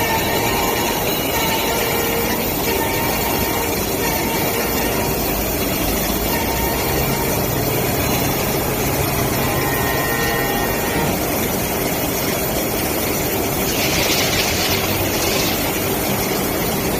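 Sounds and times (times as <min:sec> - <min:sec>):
grinding machine running: 0:00.0 - 0:16.9.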